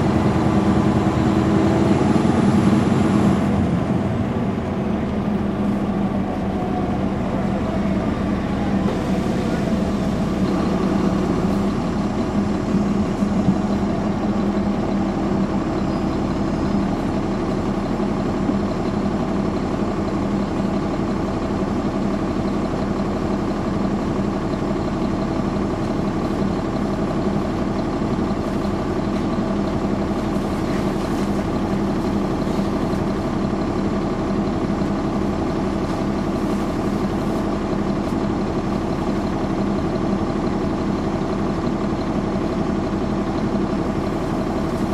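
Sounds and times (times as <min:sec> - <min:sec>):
diesel bus engine idling: 0:00.0 - 0:44.9.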